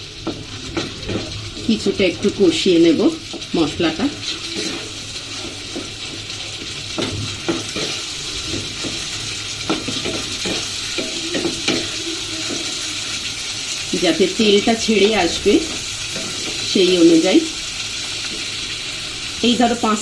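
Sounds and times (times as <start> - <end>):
spoon scraping a pan: 0.0 - 19.2
paste sizzling in oil: 0.0 - 20.0.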